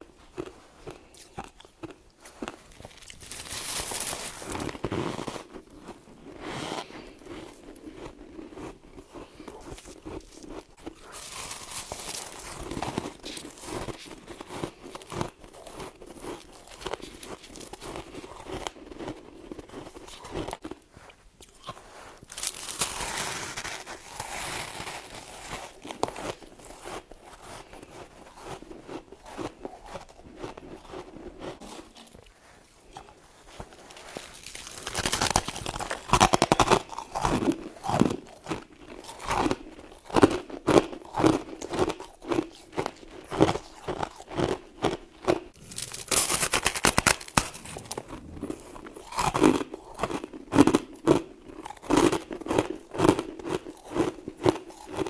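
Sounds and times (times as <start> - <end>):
person crunching frost: 0.0 - 55.0.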